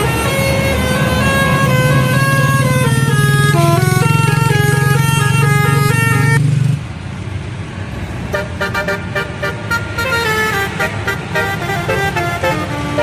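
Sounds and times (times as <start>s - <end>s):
bus horns playing musical notes: 0.0s - 6.4s, 8.3s - 13.0s
vehicle noise: 0.0s - 13.0s.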